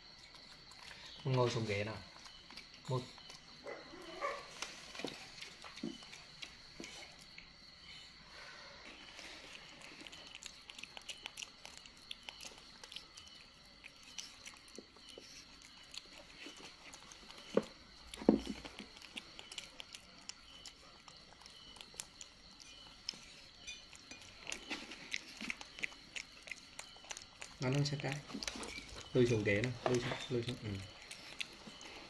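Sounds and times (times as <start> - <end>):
monkey chewing and smacking: 0.0 - 8.2, 8.8 - 32.0.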